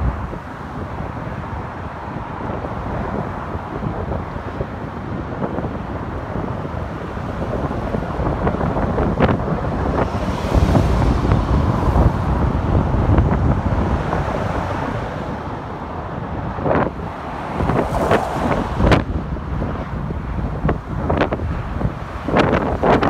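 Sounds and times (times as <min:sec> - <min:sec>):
gusty wind buffeting microphone: 0:00.0 - 0:23.0.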